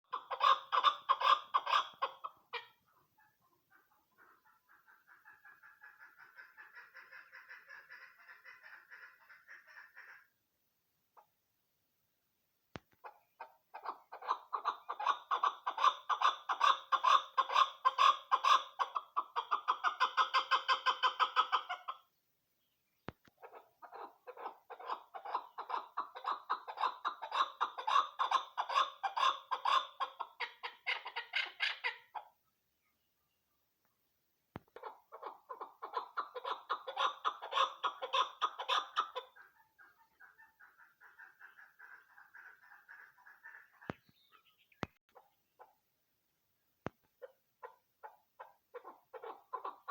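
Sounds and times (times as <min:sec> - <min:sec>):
partridge rapid clucking calls: 0:00.0 - 0:10.4, 0:13.0 - 0:22.1, 0:23.1 - 0:32.4, 0:34.6 - 0:45.8, 0:47.0 - 0:49.9.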